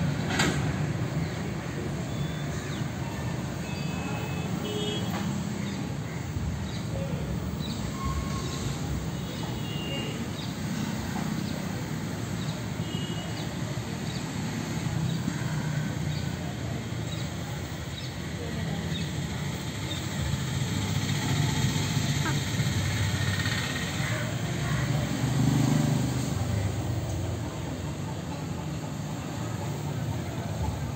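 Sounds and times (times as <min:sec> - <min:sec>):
background traffic rumble: 0:00.0 - 0:30.9.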